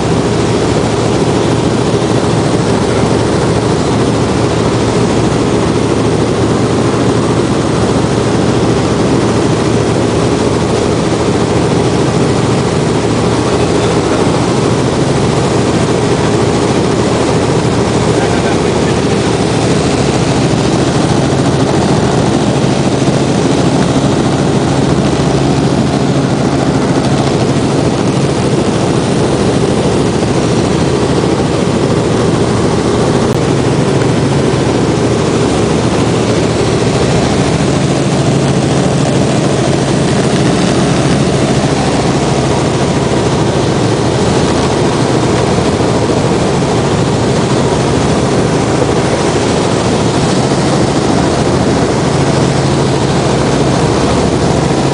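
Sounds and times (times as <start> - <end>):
helicopter cabin engine and rotors: 0.0 - 54.9
steady low hum: 0.0 - 54.9.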